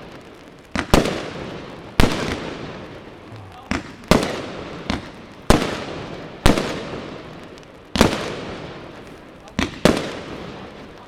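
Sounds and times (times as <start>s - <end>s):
firework shells bursting: 0.0s - 10.4s.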